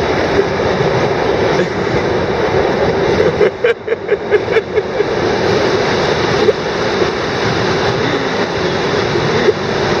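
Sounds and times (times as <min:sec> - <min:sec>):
train rolling rumble: 0:00.0 - 0:10.0.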